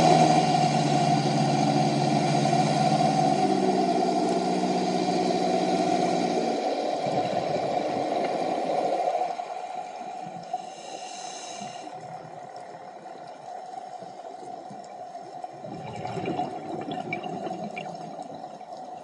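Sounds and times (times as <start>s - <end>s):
engine droning: 0.0s - 19.0s
water noise: 0.0s - 19.0s.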